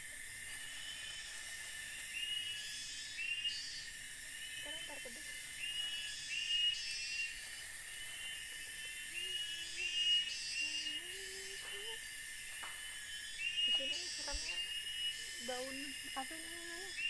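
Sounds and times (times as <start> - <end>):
insects droning: 0.0 - 17.0
short insect chirp: 0.0 - 17.0.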